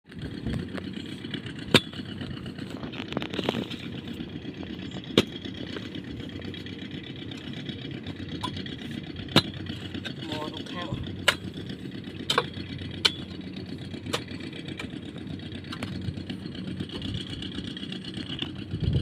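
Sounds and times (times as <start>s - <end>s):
hoe scraping in mud: 0.1s - 19.0s
tractor diesel engine idling: 0.1s - 19.0s.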